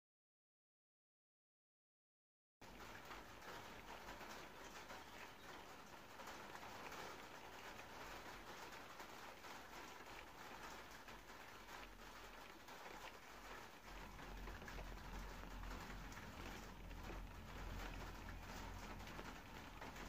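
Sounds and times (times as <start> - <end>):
light rain on car windscreen: 2.6 - 20.0.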